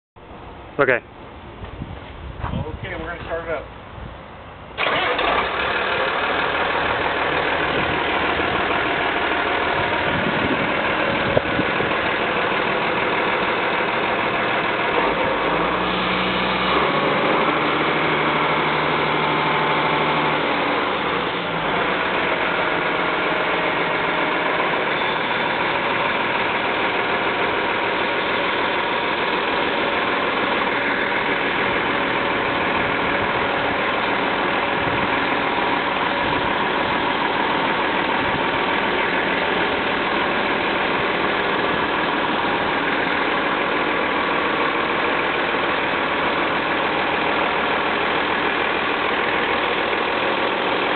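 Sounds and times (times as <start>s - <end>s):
tractor diesel engine idling: 4.5s - 50.9s.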